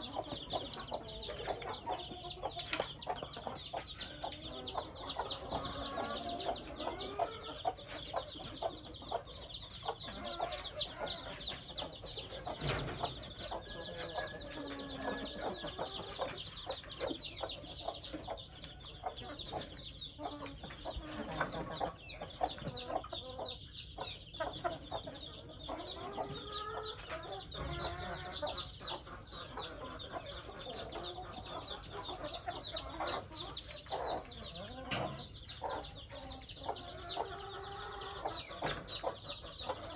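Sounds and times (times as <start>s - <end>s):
chickens clucking: 0.0s - 39.9s
chicks peeping: 0.0s - 39.9s.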